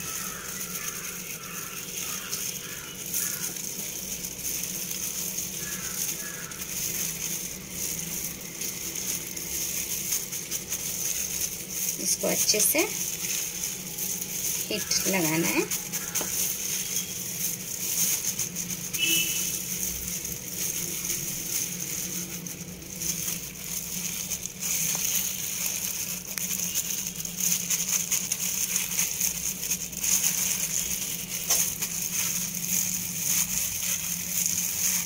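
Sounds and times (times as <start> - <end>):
flour crunching rustle: 0.0 - 35.0
plastic glove crinkling: 0.0 - 35.0.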